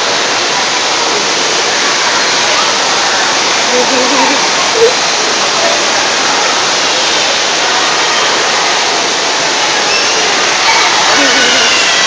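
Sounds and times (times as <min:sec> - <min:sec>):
splashing water from spray jets: 0:00.0 - 0:12.0.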